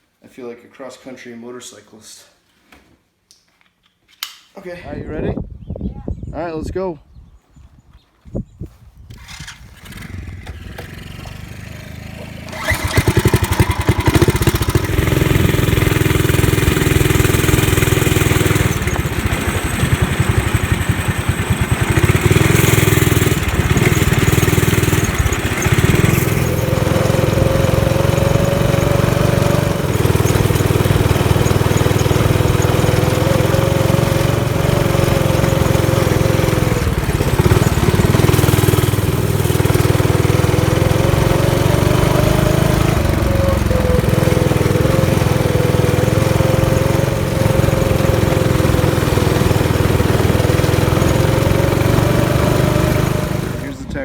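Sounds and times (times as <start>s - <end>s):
garden tractor engine droning: 9.1s - 54.0s.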